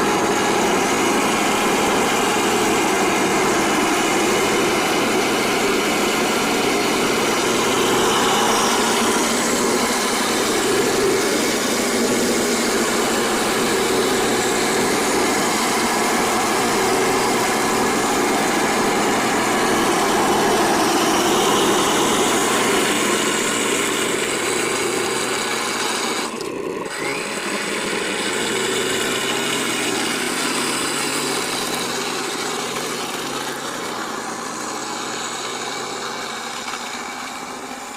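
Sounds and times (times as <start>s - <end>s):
toy tank motor drone: 0.0s - 37.9s.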